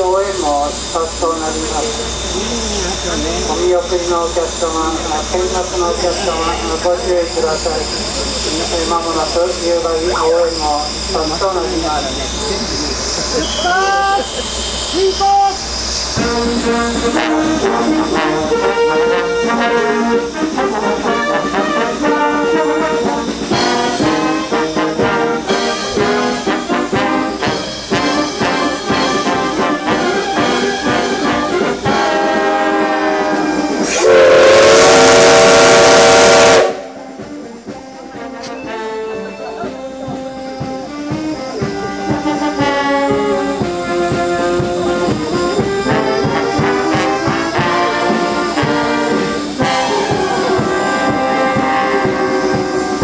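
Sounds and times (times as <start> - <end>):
brass band playing: 0.0 - 53.0
drum beats: 9.9 - 53.0.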